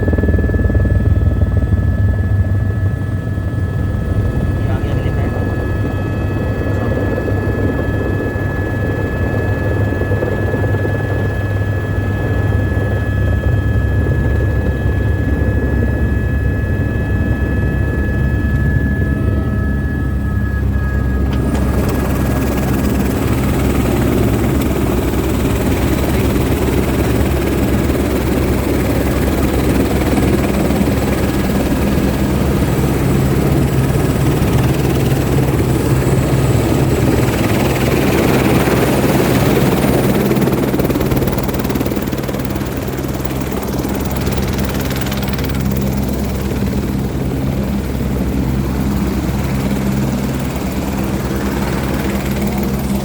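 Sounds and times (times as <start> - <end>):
helicopter engine and rotor drone: 0.0 - 53.0.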